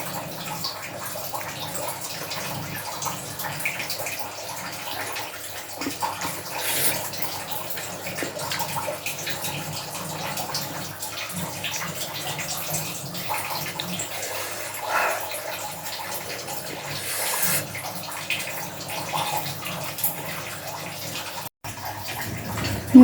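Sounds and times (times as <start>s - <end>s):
running splashing water: 1.4s - 23.0s.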